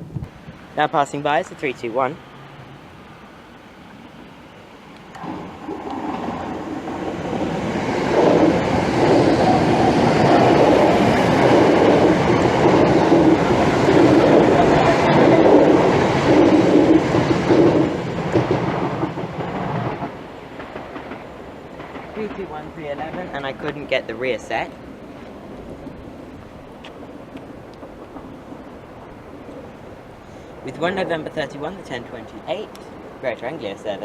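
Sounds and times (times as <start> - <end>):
electric train passing by: 0.0 - 34.0.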